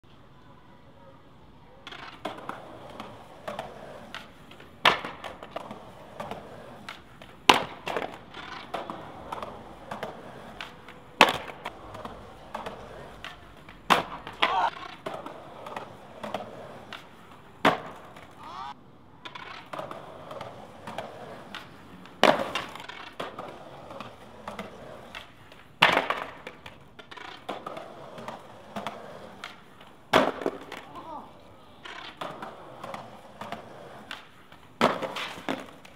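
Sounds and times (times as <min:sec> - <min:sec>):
skateboard cracking on stone: 0:01.8 - 0:18.3, 0:19.2 - 0:31.2, 0:31.8 - 0:35.9
skateboard scuffing: 0:01.8 - 0:35.9.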